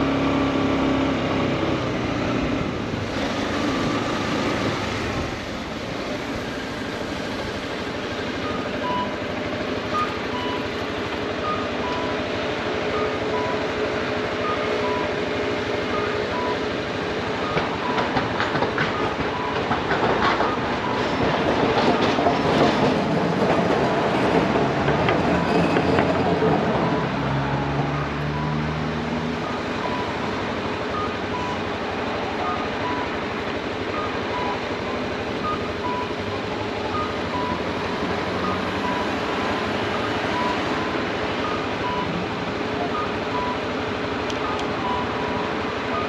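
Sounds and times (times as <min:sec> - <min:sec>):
street traffic: 0:00.0 - 0:46.0
streetcar rattling over rails: 0:00.0 - 0:46.0.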